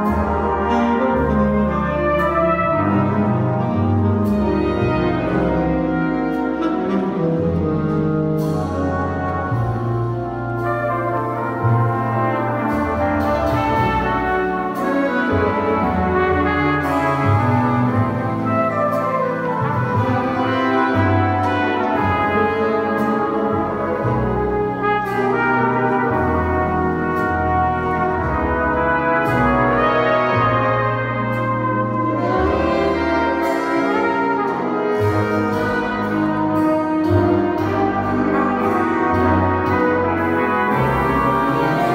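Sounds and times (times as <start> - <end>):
brass chords: 0.0 - 41.9
jazz orchestra: 0.0 - 41.9
low bass line: 0.0 - 41.9.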